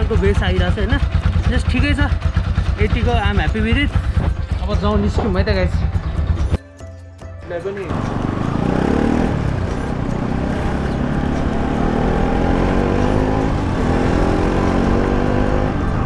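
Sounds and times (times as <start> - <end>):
motorcycle engine accelerating: 0.0 - 6.6, 7.8 - 16.0.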